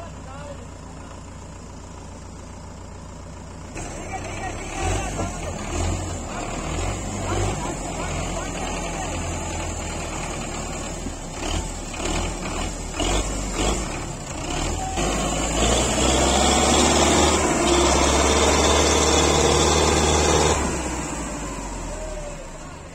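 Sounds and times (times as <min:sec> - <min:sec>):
diesel tractor engine: 0:00.0 - 0:22.9.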